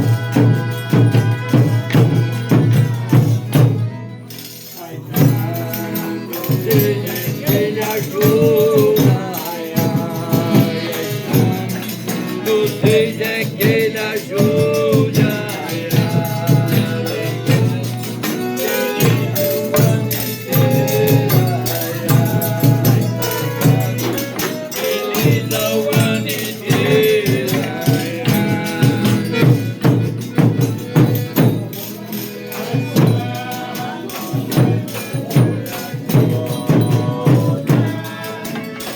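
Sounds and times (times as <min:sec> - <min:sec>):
tambourine shaken and beaten: 0:00.0 - 0:38.9
voices singing a chant: 0:00.0 - 0:38.9.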